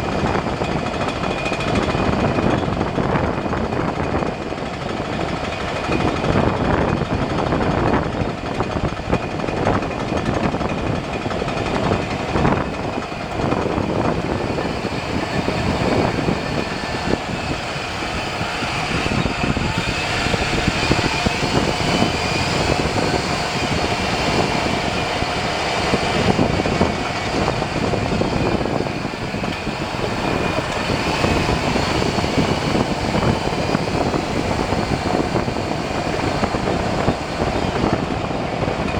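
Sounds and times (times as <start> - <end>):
road and wind noise in car: 0.0 - 38.9.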